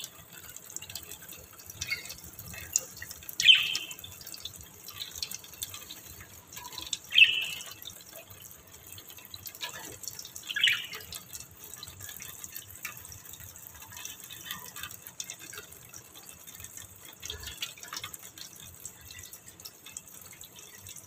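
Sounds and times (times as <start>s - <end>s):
water dripping in a steel sink: 0.0s - 21.0s.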